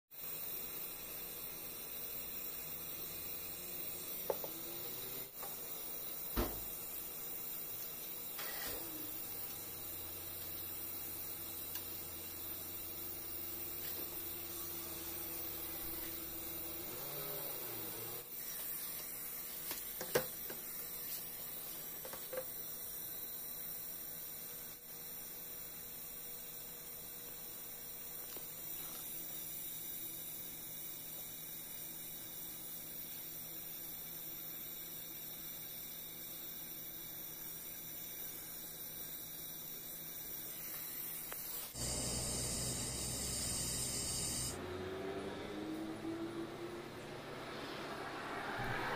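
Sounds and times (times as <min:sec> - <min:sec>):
torch flame hissing: 0:00.2 - 0:44.6.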